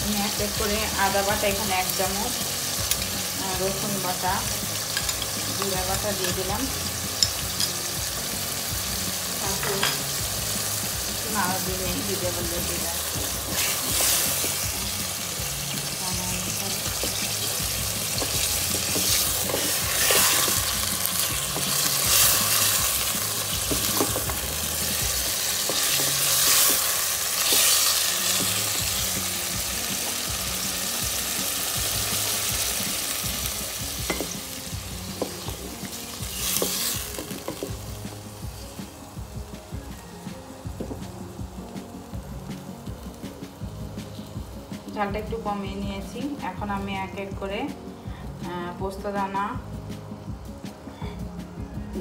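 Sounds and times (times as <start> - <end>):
chicken sizzling in hot oil: 0.0 - 46.6.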